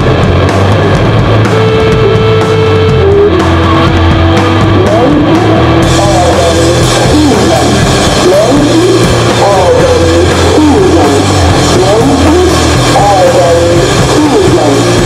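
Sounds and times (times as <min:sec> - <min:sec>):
distorted punk rock: 0:00.0 - 0:15.0.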